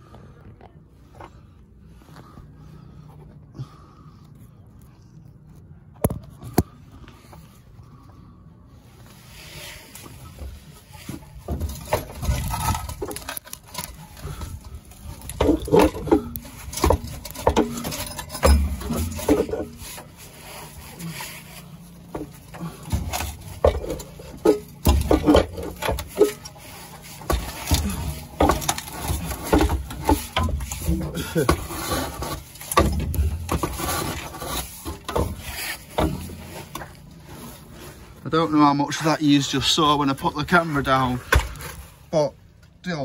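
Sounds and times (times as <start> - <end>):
exhaust pipe knocking and scraping: 5.5 - 42.8.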